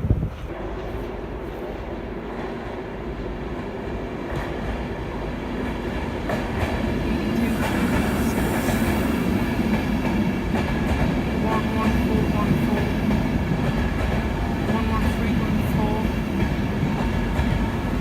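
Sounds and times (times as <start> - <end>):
train running on rails: 0.0 - 18.0.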